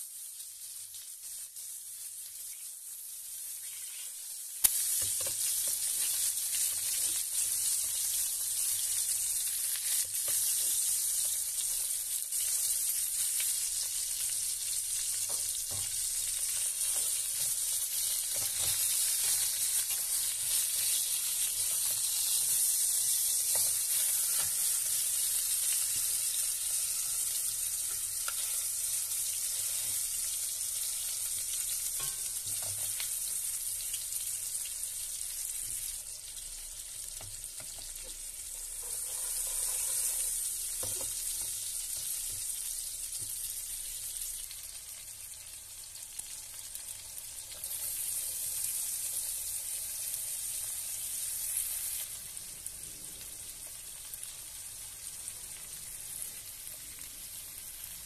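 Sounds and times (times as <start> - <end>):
meat sizzling in hot oil: 0.0 - 58.0.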